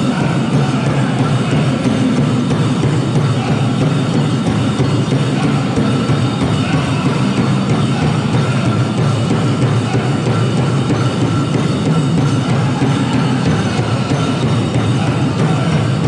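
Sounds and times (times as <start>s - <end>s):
drummers beating a big drum: 0.0s - 16.0s
group singing: 0.0s - 16.0s.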